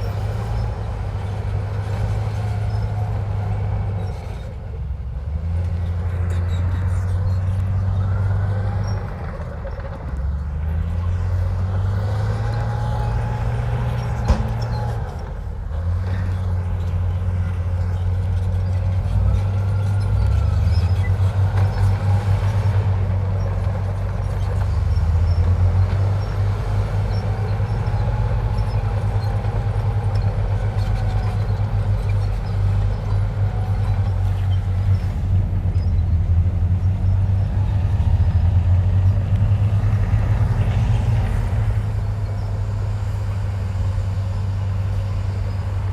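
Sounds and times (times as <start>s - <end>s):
heavy diesel engine rumbling: 0.0s - 45.9s.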